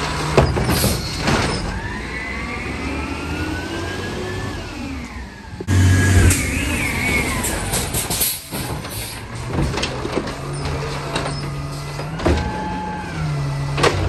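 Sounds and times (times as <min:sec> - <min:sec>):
garbage truck accelerating: 0:00.0 - 0:14.0
truck engine low hum: 0:00.0 - 0:14.0.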